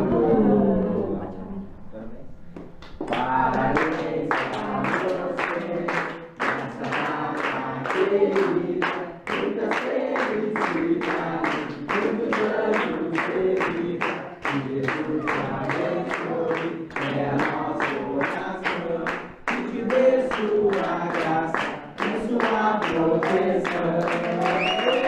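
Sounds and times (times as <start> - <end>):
group singing: 0.0 - 1.6, 3.0 - 25.0
people clapping in time: 2.5 - 25.0.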